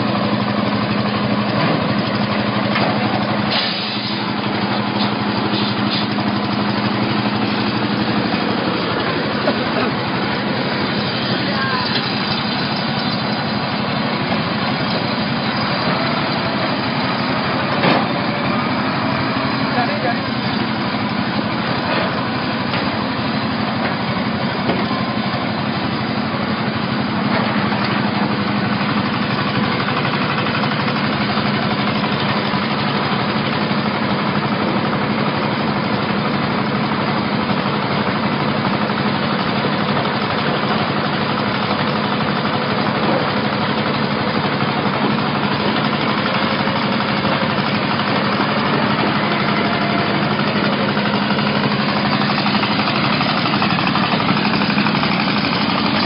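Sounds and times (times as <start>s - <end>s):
forklift engine running: 0.0s - 56.0s.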